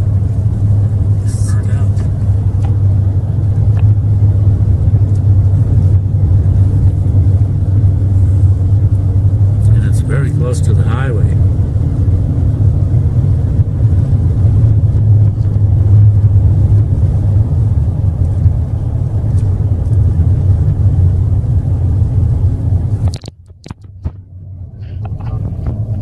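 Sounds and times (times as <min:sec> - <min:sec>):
vehicle rumble from inside cab: 0:00.0 - 0:26.0.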